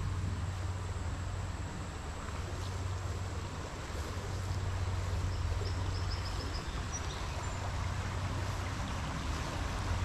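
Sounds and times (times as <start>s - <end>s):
rushing outdoor noise: 0.0s - 10.0s.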